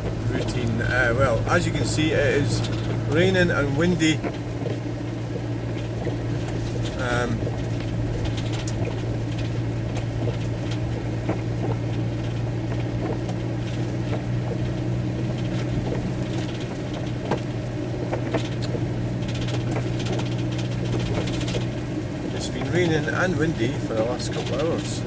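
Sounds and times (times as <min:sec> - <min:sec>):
rain pattering on a vehicle roof: 0:00.0 - 0:25.0
steady low hum: 0:00.0 - 0:25.0.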